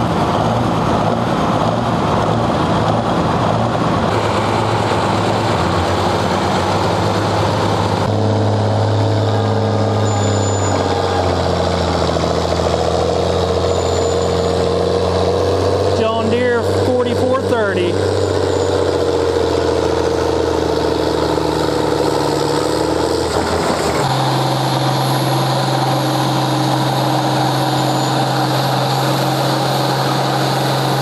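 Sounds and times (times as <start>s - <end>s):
tractor diesel engine working hard: 0.0s - 31.0s
tractor engines running: 0.0s - 31.0s.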